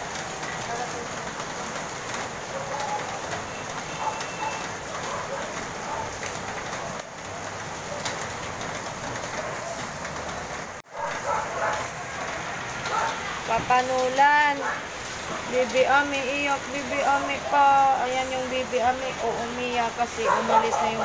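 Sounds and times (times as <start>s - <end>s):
heavy rain on roofs and pavement: 0.0s - 21.0s.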